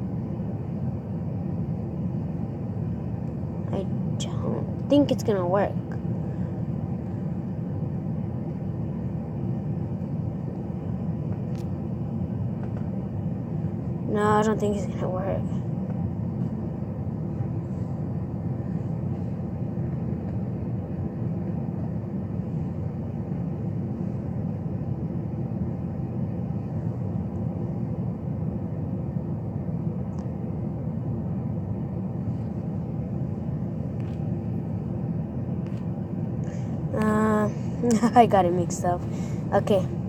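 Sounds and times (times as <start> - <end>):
low background rumble: 0.0 - 40.0.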